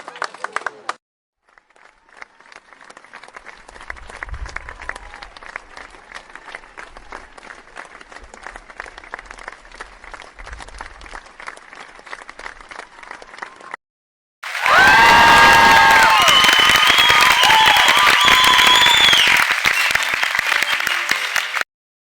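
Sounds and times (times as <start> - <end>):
group applause: 0.0 - 13.8, 14.4 - 21.7.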